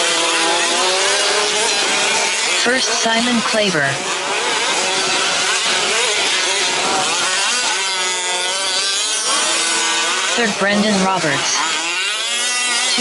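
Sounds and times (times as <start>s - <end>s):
small two-stroke engines revving: 0.0s - 13.0s.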